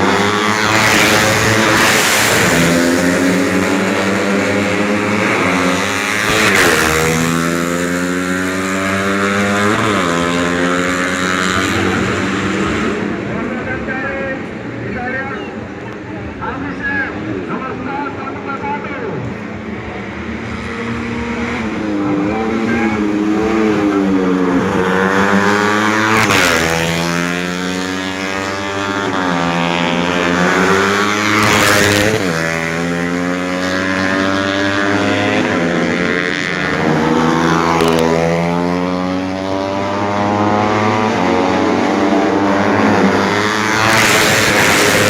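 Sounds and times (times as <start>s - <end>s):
motorcycles accelerating hard: 0.0s - 45.0s.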